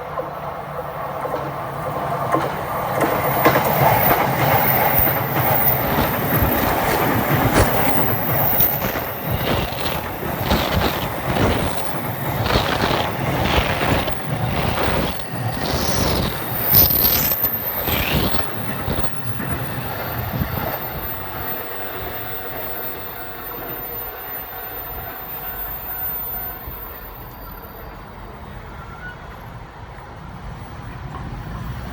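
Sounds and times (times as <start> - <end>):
train wheel and rail noise: 0.0 - 31.9.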